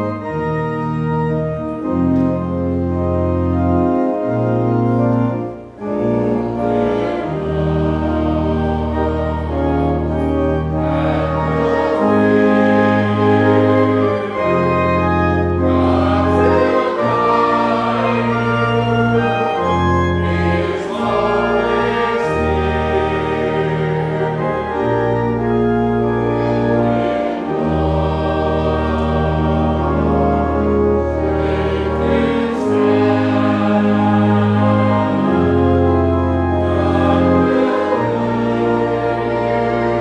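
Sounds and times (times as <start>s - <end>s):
pipe organ playing chords: 0.0s - 40.0s
choir singing: 3.3s - 40.0s.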